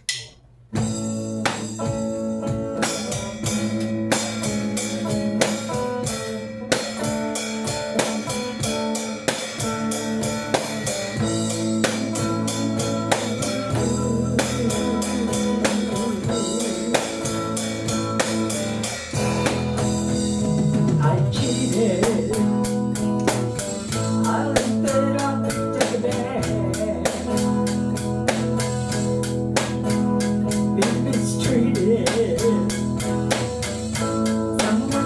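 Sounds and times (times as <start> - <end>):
drum kit steady beat: 0.0 - 35.0
guitar playing: 0.0 - 35.0.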